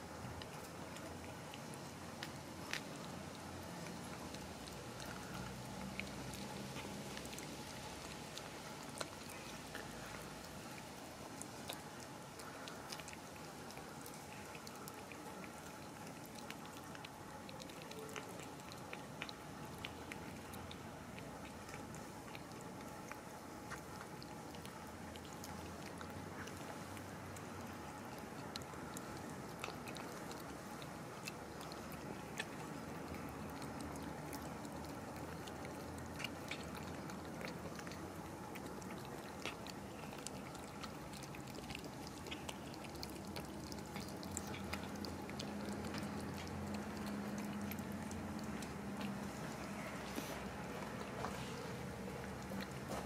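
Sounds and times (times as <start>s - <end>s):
cats crunching dry kibble: 0.0s - 53.0s
low background hum: 0.0s - 53.0s.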